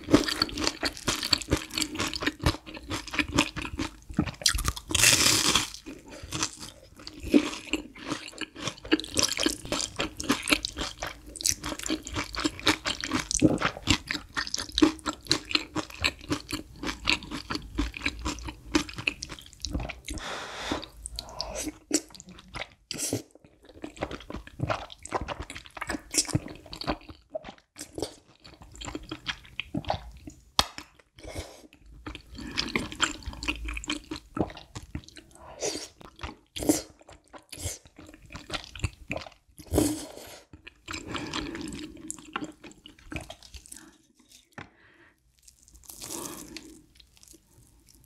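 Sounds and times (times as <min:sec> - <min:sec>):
slurping and chewing noodles: 0:00.0 - 0:30.4, 0:31.2 - 0:44.6, 0:45.3 - 0:48.0.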